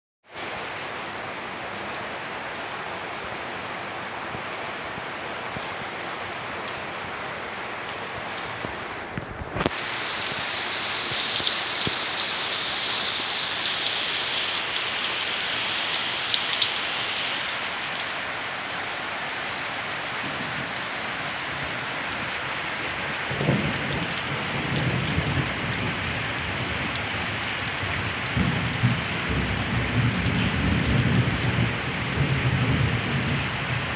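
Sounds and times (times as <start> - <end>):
heavy rain falling: 0.4 - 33.9.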